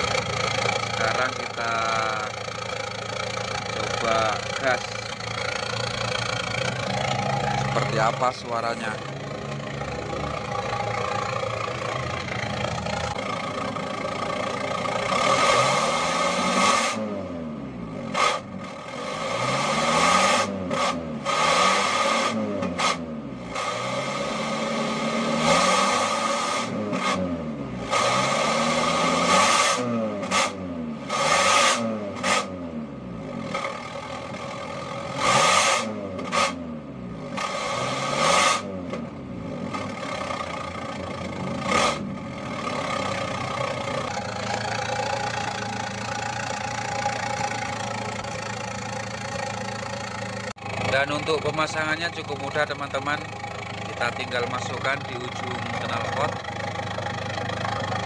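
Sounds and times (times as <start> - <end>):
car engine revving and idling: 0.0 - 58.0.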